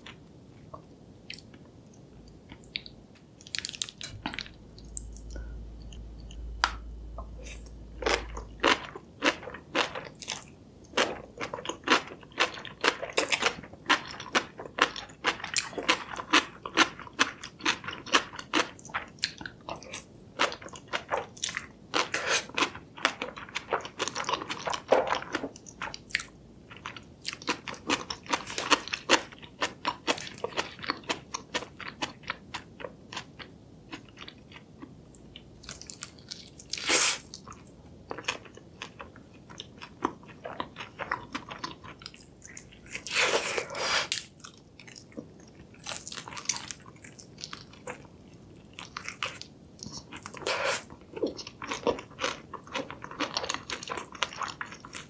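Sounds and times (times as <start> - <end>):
chewing noodles: 7.4 - 55.0.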